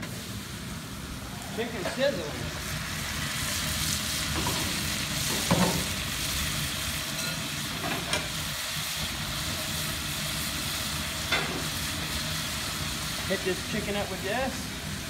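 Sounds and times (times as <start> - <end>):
chicken sizzling in hot fat: 0.0 - 15.0.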